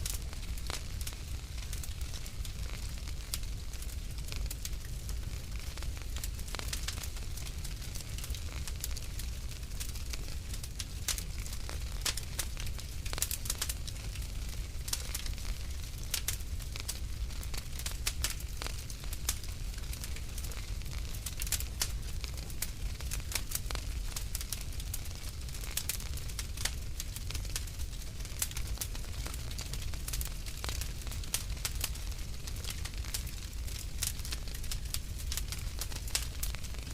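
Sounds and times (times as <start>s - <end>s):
low rumble of flames: 0.0s - 36.9s
wood fire crackling and popping: 0.0s - 36.9s.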